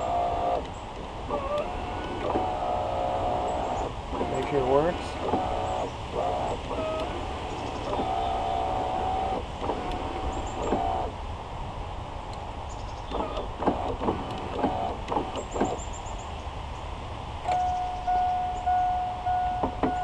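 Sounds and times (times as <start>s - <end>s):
power window motor whining: 0.0s - 11.2s, 13.1s - 16.0s, 17.4s - 20.0s.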